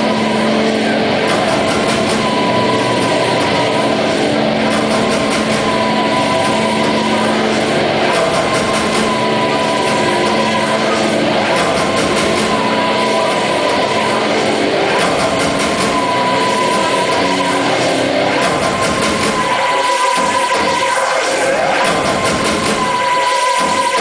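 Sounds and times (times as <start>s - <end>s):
high held note: 0.0s - 24.0s
loud drone music: 0.0s - 24.0s.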